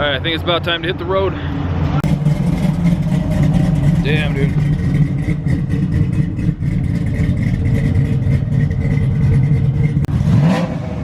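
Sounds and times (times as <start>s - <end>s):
truck engine revving: 1.5s - 11.0s.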